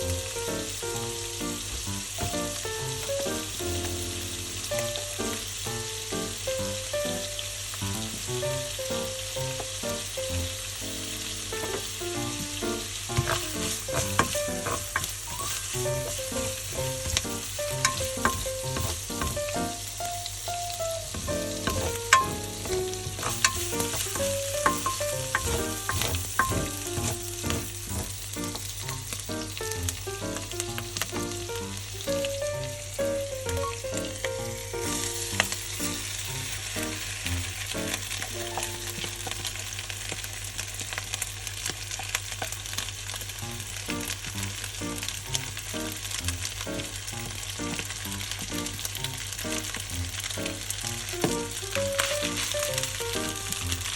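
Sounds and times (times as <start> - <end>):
rice sizzling in a hot pan: 0.0 - 53.9.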